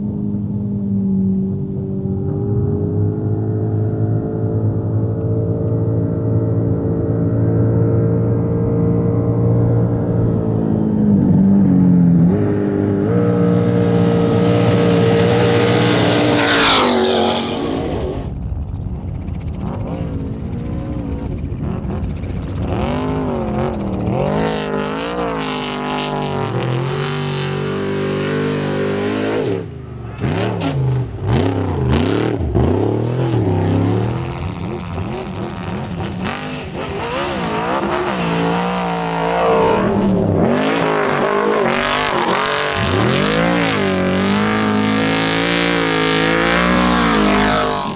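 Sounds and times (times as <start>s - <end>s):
race truck engines revving: 0.0s - 18.4s, 19.6s - 47.9s.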